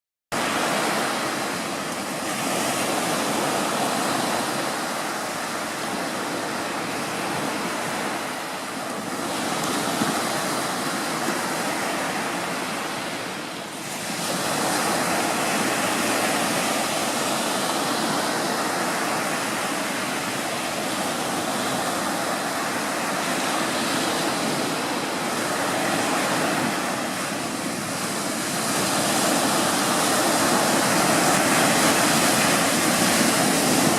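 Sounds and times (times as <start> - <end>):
waves washing on beach: 0.4 - 33.9.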